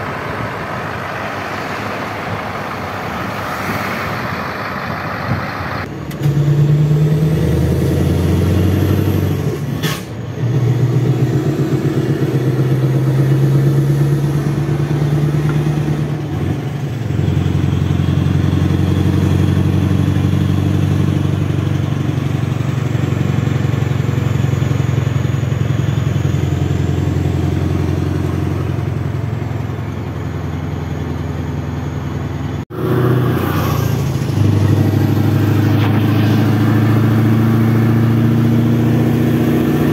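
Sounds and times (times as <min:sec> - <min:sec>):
truck diesel engine running: 0:00.0 - 0:07.0, 0:07.6 - 0:39.9
road noise: 0:00.0 - 0:39.9.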